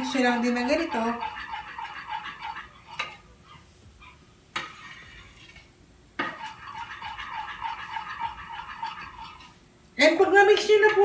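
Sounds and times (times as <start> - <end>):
utensil stirring in a bowl: 0.0 - 11.0.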